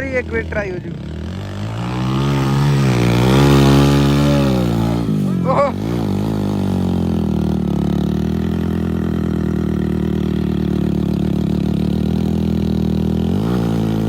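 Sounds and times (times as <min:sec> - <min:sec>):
diesel engine under load: 0:00.0 - 0:14.0.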